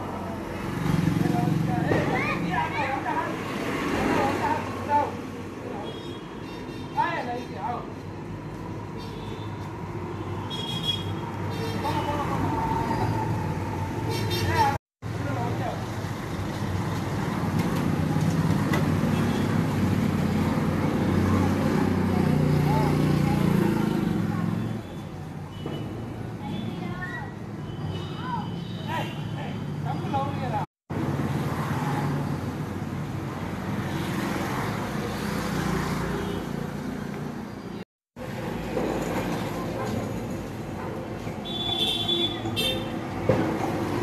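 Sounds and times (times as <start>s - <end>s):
traffic noise: 0.0s - 44.0s.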